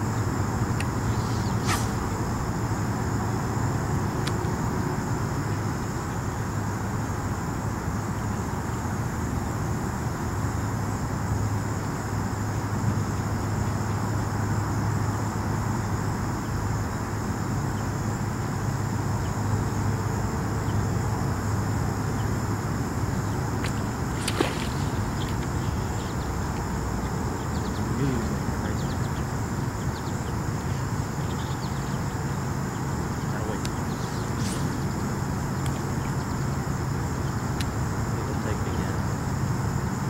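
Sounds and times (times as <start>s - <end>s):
insects singing: 0.0s - 40.0s
low steady hum: 0.0s - 40.0s.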